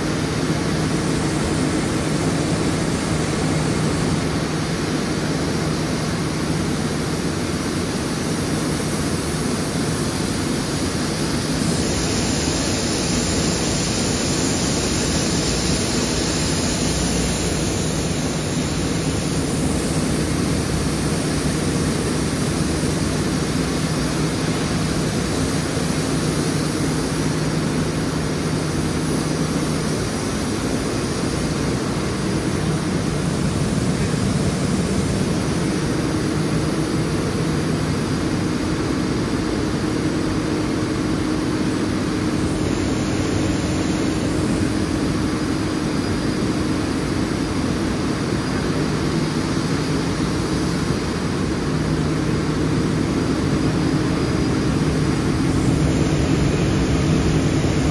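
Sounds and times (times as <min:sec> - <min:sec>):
low machine hum: 0:00.0 - 0:57.9.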